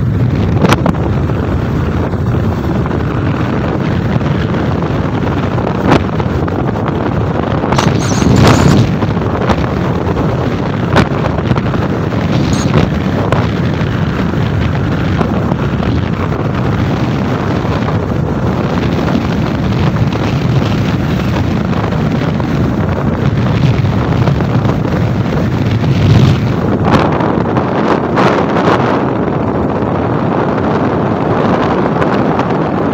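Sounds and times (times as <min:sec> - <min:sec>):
vehicle and road rumble: 0:00.0 - 0:32.9
wind noise on microphone: 0:00.0 - 0:32.9.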